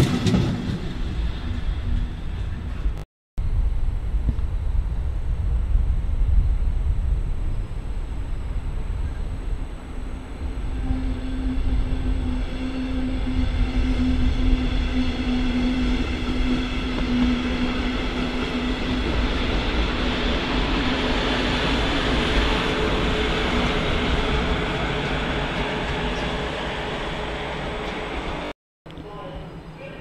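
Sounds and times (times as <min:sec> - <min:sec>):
electric train rumble: 0:00.0 - 0:30.0
higher hum: 0:01.0 - 0:30.0.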